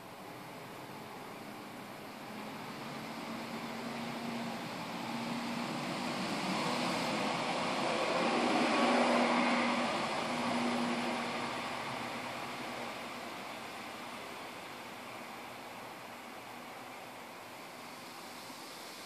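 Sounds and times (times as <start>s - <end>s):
distant engine hum: 0.0s - 19.0s.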